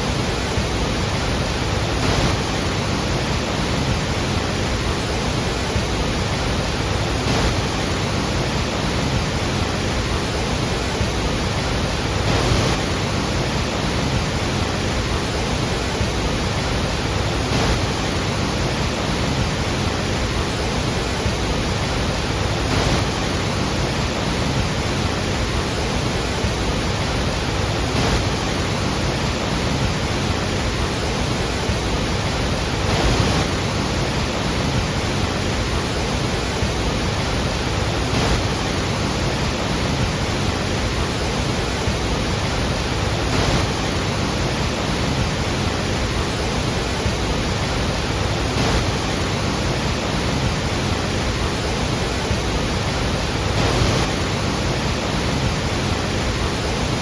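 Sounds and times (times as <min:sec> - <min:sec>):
large waterfall rushing: 0:00.0 - 0:57.0.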